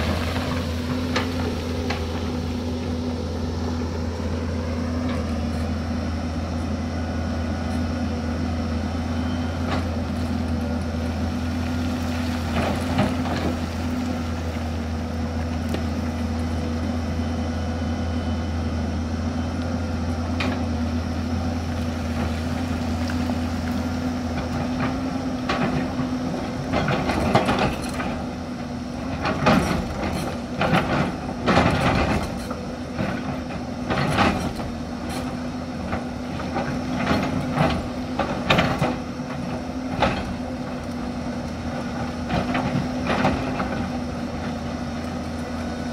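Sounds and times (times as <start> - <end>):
excavator diesel engine humming: 0.0 - 45.9.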